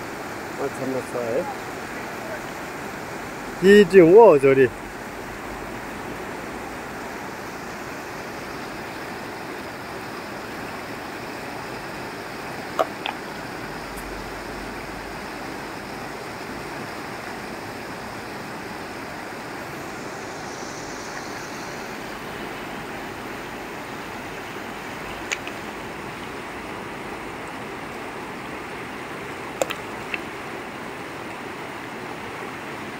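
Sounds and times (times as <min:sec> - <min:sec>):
river rapids rushing: 0:00.0 - 0:32.9.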